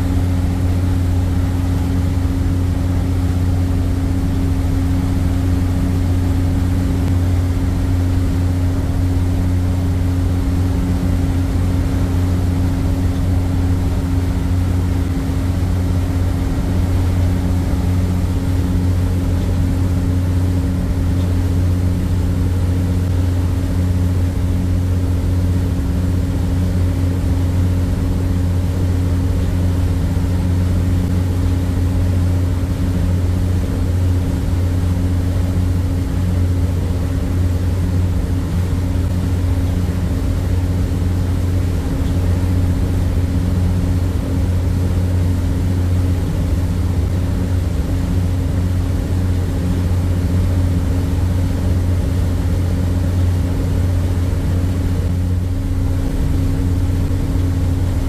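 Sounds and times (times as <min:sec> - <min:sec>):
ferry diesel engine droning: 0:00.0 - 0:58.0.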